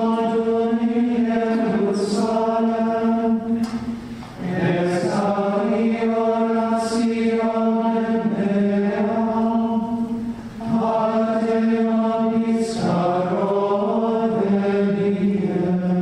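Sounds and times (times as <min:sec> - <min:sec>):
hissed consonant: 0:00.0 - 0:16.0
slow vocal chant: 0:00.0 - 0:16.0.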